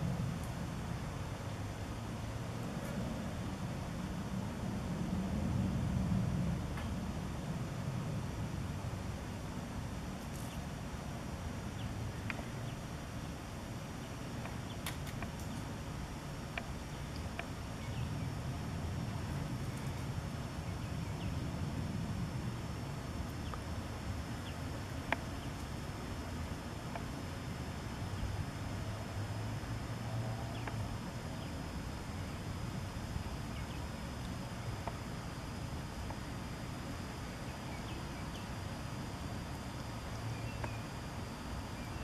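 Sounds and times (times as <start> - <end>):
faint high whine: 0.0 - 42.0.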